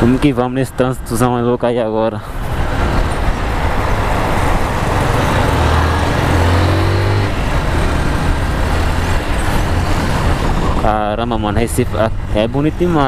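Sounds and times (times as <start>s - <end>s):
wind and road noise: 0.0s - 13.0s
motorcycle engine cruising: 2.5s - 13.0s.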